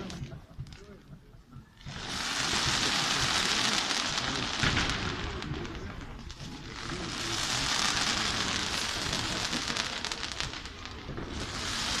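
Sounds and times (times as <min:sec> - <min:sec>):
fireworks crackling and fizzing: 0:00.0 - 0:12.0.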